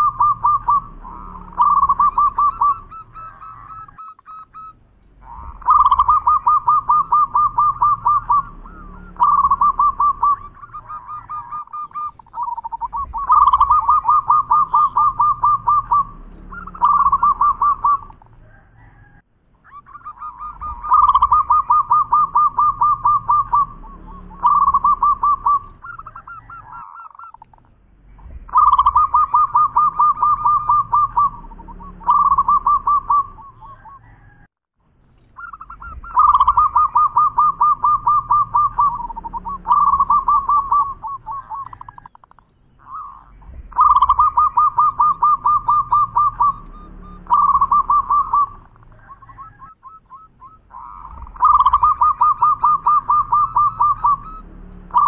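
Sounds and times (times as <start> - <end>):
dove cooing: 0.0 - 34.5, 35.2 - 55.0.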